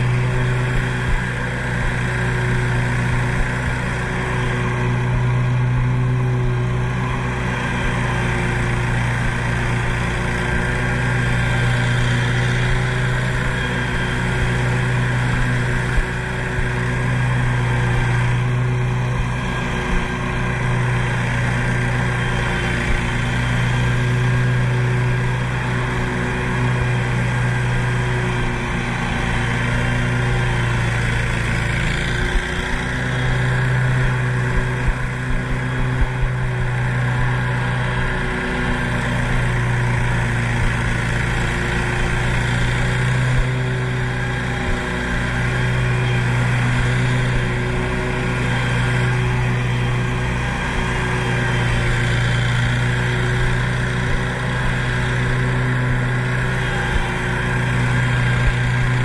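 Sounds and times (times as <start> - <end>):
mower engine running: 0.0 - 59.0.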